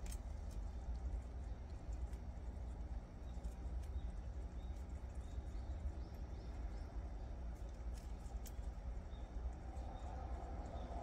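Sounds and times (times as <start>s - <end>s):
animals chewing corn: 0.0s - 11.0s
low steady rumble: 0.0s - 11.0s.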